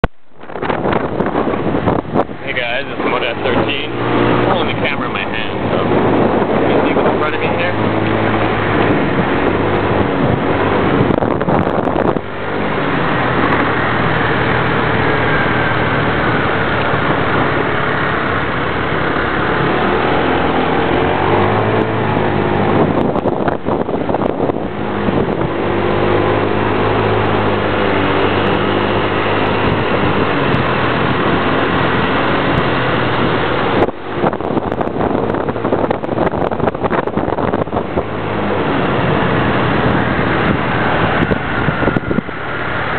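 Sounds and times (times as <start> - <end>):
motor scooter engine running: 0.0 - 42.9
road noise rushing: 0.0 - 42.9.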